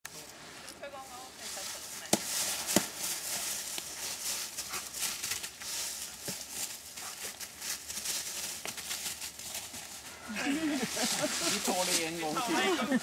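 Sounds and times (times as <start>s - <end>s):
dry leaves rustling and crackling: 0.1s - 13.0s.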